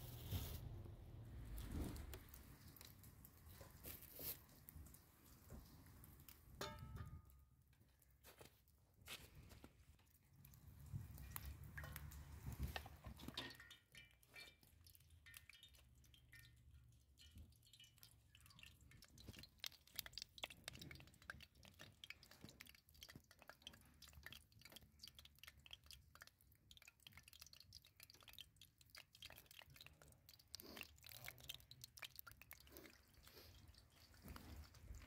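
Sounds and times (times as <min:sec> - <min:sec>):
dough frying in hot oil: 0:00.0 - 0:35.0.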